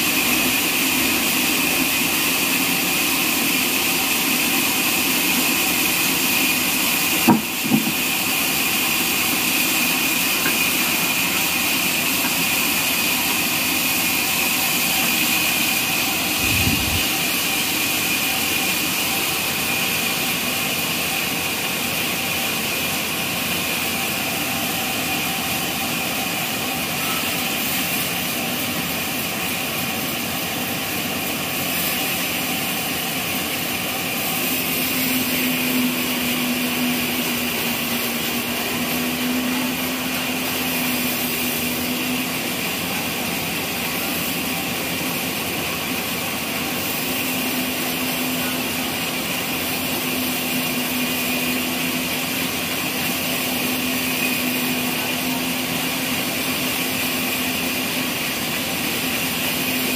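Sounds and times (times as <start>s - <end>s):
band saw cutting through log: 0.0s - 59.9s.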